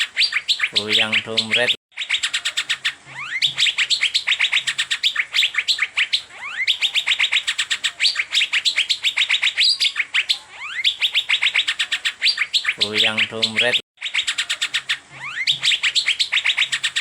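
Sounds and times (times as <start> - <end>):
bird chirping rapidly: 0.0 - 17.0
bird rising whistles: 2.0 - 12.8, 14.0 - 17.0.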